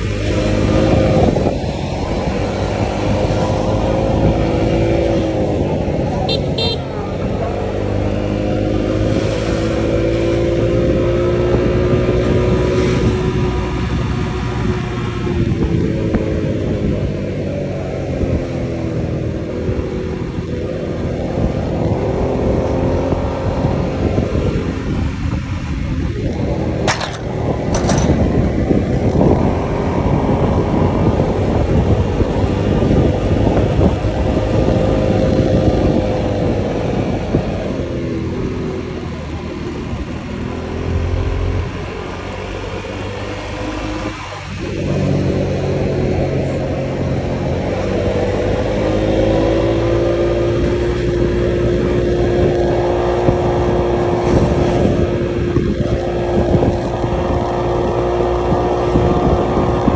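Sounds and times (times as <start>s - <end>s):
road noise rushing: 0.0s - 59.9s.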